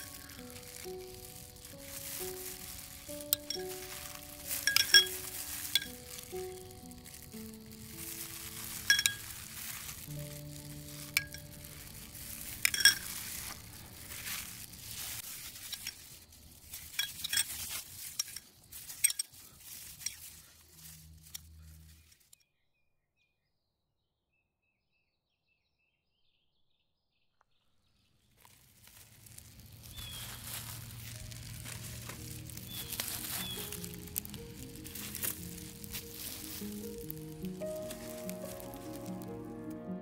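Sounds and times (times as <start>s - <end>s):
plastic glove rustling: 0.0s - 22.4s, 28.2s - 40.0s.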